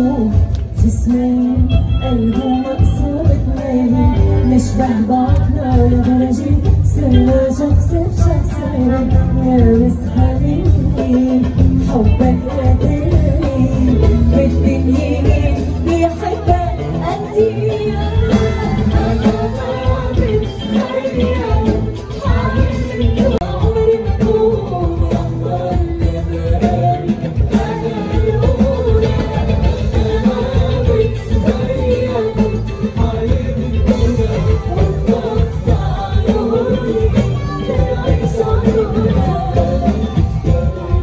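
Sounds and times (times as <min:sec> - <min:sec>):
band playing pop music: 0:00.0 - 0:41.0
woman singing: 0:00.0 - 0:41.0.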